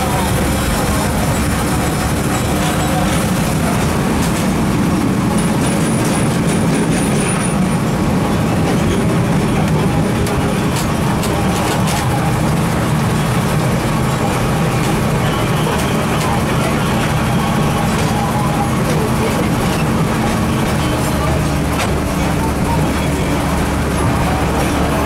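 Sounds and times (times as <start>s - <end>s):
train rumbling: 0.0s - 25.0s
wheels rolling on rails: 0.0s - 25.0s.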